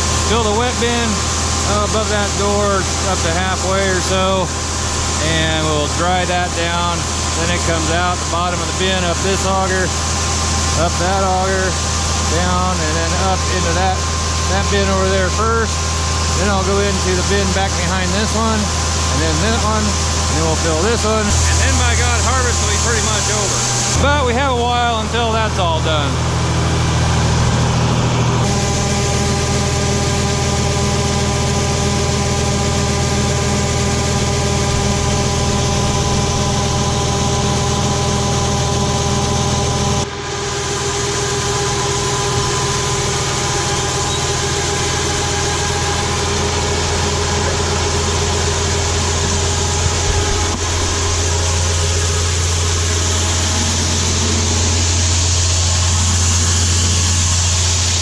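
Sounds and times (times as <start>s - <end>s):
farm machinery engine droning: 0.0s - 58.0s.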